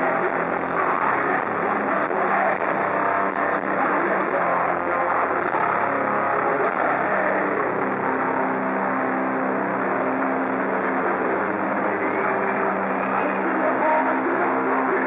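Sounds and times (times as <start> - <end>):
live metal band playing: 0.0 - 15.0.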